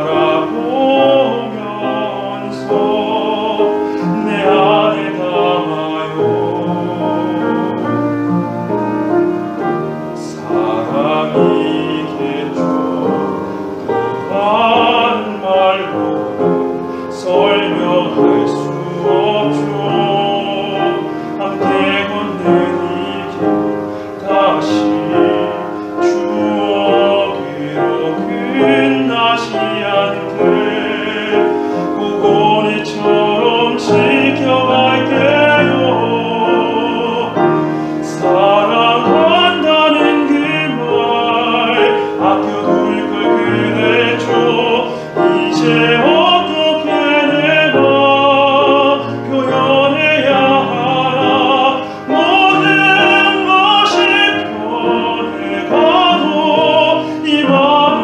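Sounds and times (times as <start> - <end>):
piano: 0.0 - 58.0
tenor singing with vibrato: 0.0 - 58.0.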